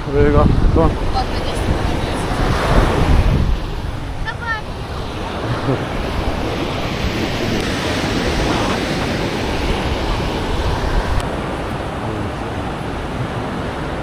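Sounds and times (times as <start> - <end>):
ocean surf on sandy beach: 0.0 - 14.0
wind rumbling on microphone: 0.0 - 14.0.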